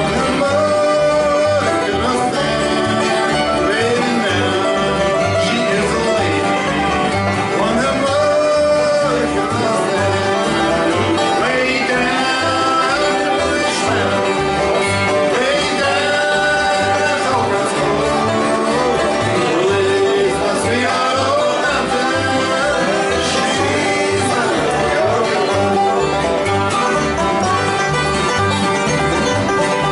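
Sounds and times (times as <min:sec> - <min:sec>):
banjo: 0:00.0 - 0:29.9
bass line: 0:00.0 - 0:29.9
guitar: 0:00.0 - 0:29.9.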